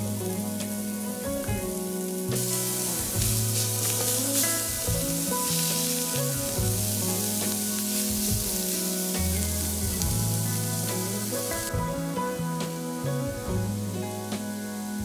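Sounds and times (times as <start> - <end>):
background music with bass line: 0.0 - 15.0
meat sizzling on a griddle: 0.0 - 15.0.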